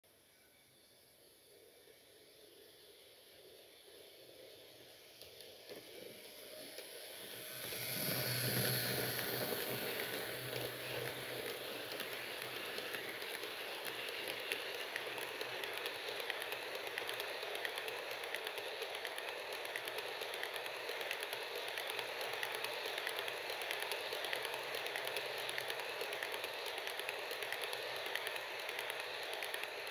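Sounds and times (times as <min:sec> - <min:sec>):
model train wheels rumbling: 0:02.4 - 0:29.9.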